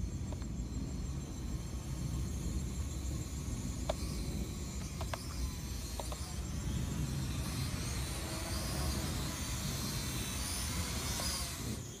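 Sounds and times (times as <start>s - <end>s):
quadcopter propellers whining: 0.1s - 12.0s.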